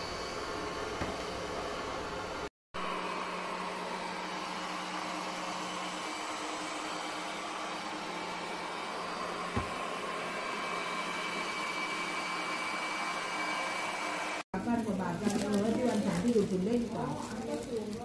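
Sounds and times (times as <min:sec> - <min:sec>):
robot vacuum whirring: 0:02.9 - 0:18.0.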